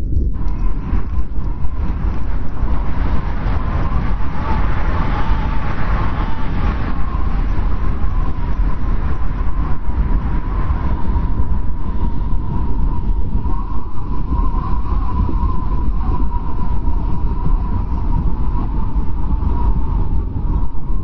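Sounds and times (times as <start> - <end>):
blizzard wind rumbling and whistling: 0.0 - 21.0.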